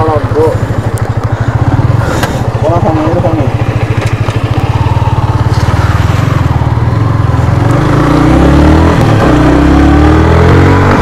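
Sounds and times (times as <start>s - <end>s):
motorcycle engine idling and accelerating: 0.0s - 11.0s.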